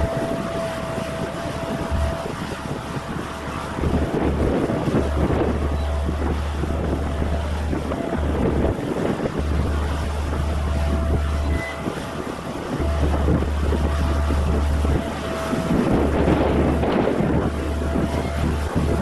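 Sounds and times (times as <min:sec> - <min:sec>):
distant machine engine running: 0:00.0 - 0:19.0
wind buffeting microphone: 0:00.0 - 0:19.0.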